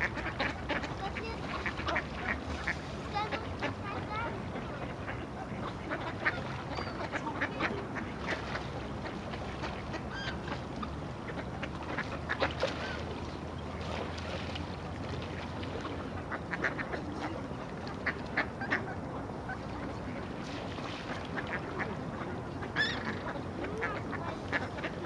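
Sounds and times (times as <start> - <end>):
ducks quacking: 0.0 - 13.1, 15.7 - 17.4, 18.0 - 19.9, 21.2 - 25.0.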